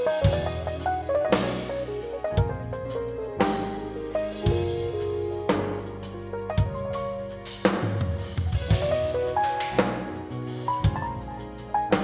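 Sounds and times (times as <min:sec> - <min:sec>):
melodic music: 0:00.0 - 0:12.0.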